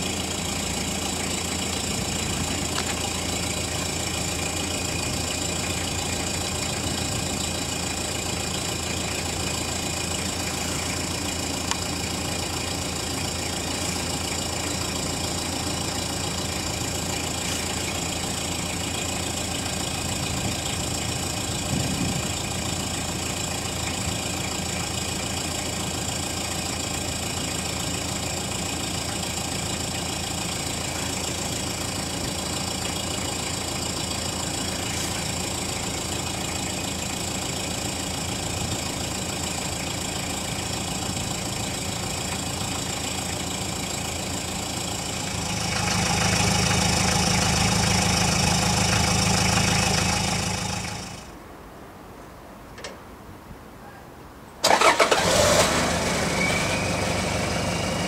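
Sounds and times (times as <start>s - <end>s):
diesel engine idling: 0.0s - 51.6s, 54.6s - 58.0s.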